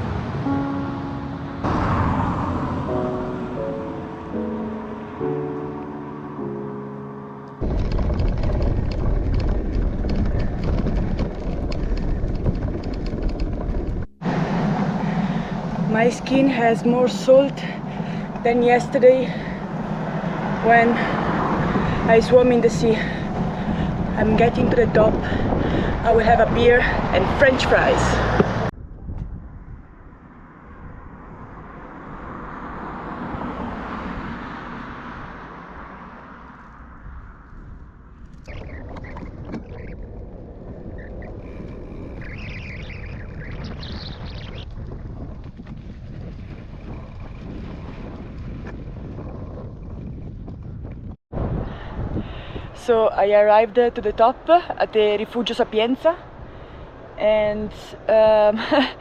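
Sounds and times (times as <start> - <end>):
low rumble: 0.0 - 6.7, 7.6 - 34.2, 35.1 - 54.2
vehicle passing: 0.0 - 28.8, 29.4 - 50.3, 51.4 - 59.0
wind buffeting microphone: 7.6 - 59.0.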